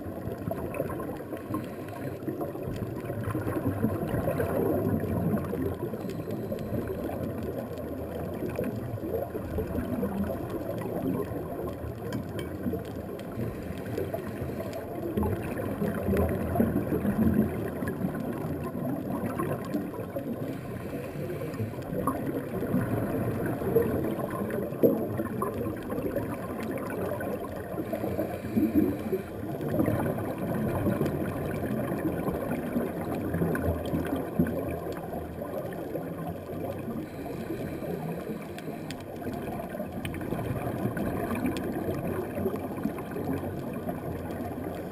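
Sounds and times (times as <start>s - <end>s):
low wash of water: 0.0s - 44.9s
scuba regulator bubbles gurgling: 0.0s - 44.9s.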